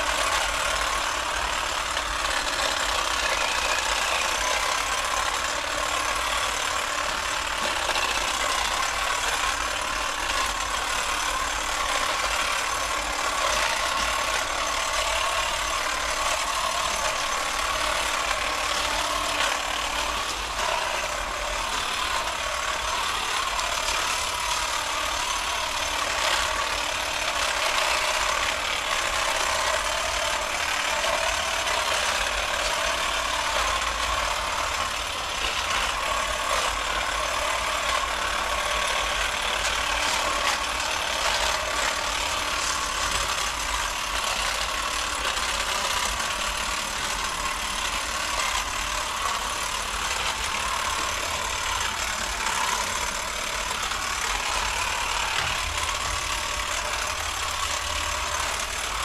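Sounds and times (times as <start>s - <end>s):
electric hedge trimmer running: 0.0s - 59.0s.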